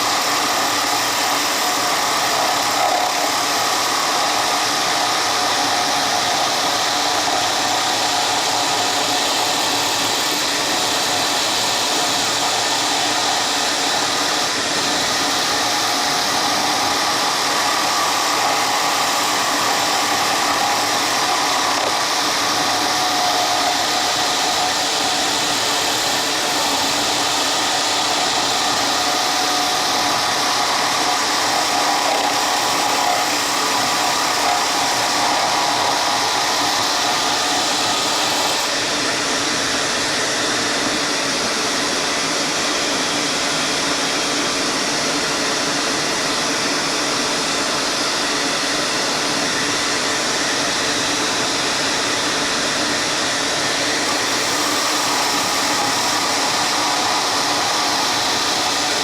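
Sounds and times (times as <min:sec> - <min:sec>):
power tool whirring: 0:00.0 - 0:59.0.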